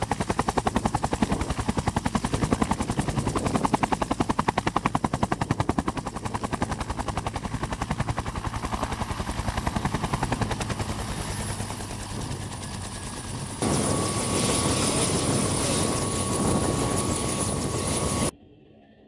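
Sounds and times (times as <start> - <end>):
helicopter rotor beating: 0.0 - 18.3.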